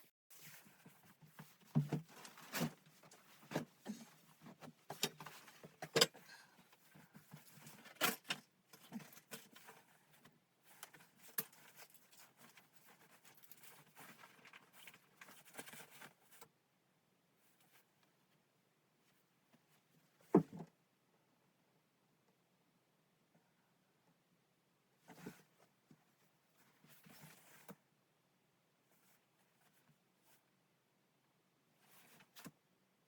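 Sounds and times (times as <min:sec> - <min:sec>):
faint background noise: 0:00.0 - 0:33.0.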